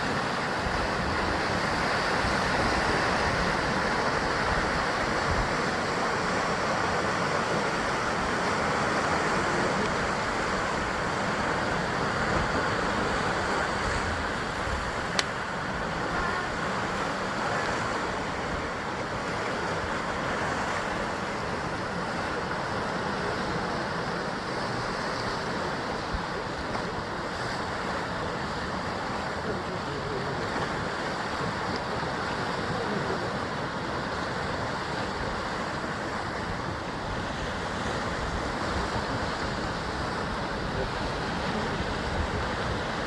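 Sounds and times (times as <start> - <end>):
surf washing against rocks: 0.0 - 43.0.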